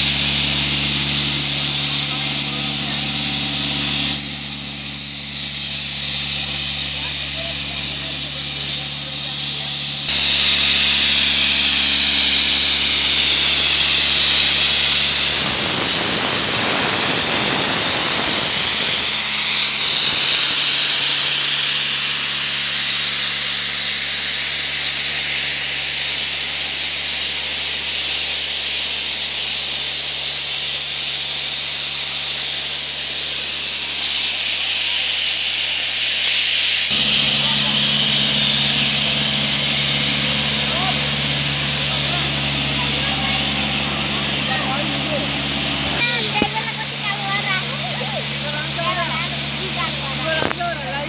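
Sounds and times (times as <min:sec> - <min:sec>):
compressed air hissing: 0:00.0 - 0:51.0
engine droning: 0:00.0 - 0:51.0.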